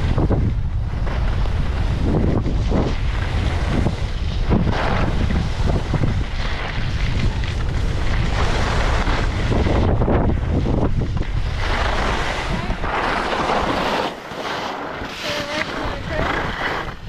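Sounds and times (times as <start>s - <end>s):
skis scraping on snow: 0.0s - 17.0s
wind rushing over microphone: 0.0s - 17.0s.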